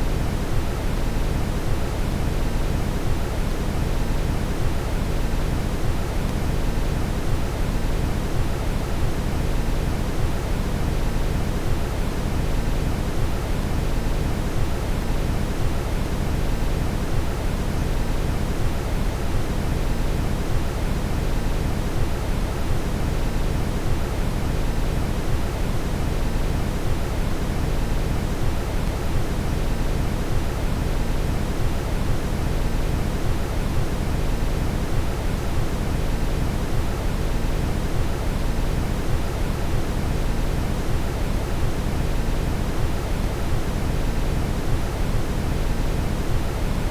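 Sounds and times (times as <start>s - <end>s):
brown noise hiss: 0.0s - 46.9s.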